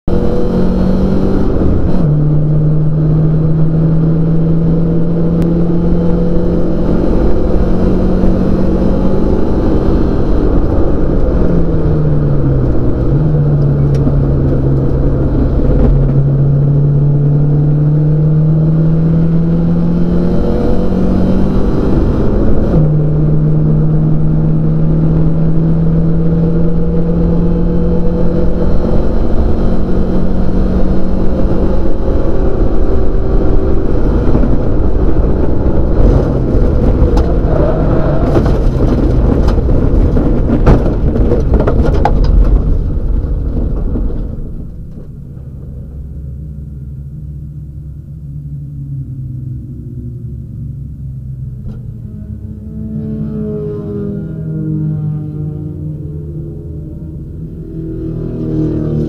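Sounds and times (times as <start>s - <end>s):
race car engine under load: 0.0s - 59.0s
road and tyre rumble: 0.0s - 59.0s.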